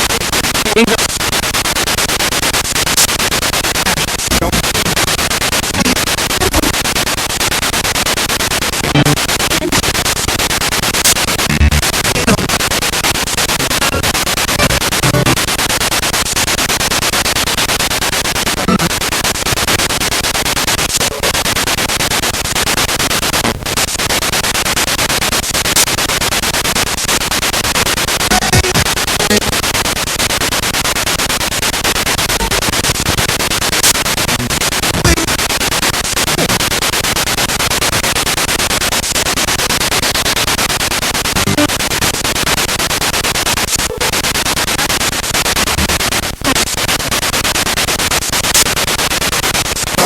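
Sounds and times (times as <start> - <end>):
radio broadcast fragments: 0.0 - 26.0, 26.7 - 39.2, 40.5 - 50.0
radio static hiss: 0.0 - 50.0.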